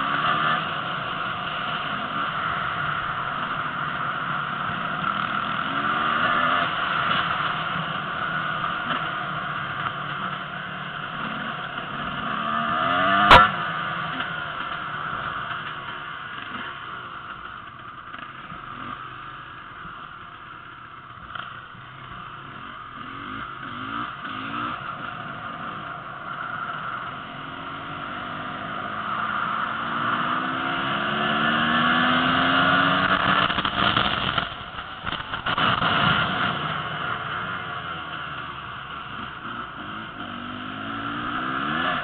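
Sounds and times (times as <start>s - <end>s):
dirt bike engine accelerating: 0.0s - 42.0s.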